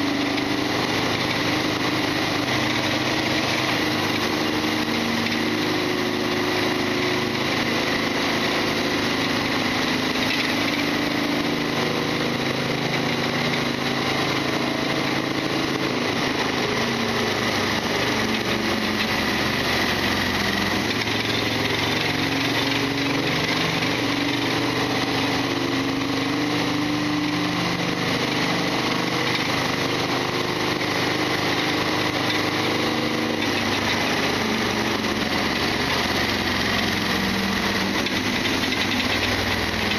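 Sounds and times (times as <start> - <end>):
loud mechanical clattering: 0.0 - 39.9
motorcycle engine running: 0.0 - 39.9.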